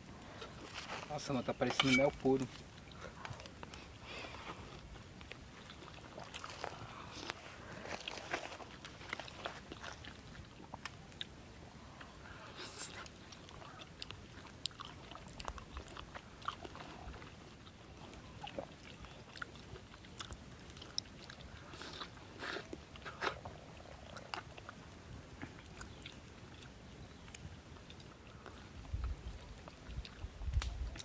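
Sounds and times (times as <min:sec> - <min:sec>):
person chewing chicken: 0:04.6 - 0:11.3, 0:11.9 - 0:24.8, 0:25.4 - 0:31.0.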